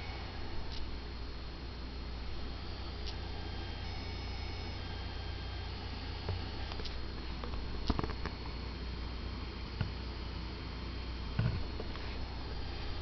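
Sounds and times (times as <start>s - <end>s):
laptop high-pitched whine: 0.0s - 13.0s
low hum: 0.0s - 13.0s.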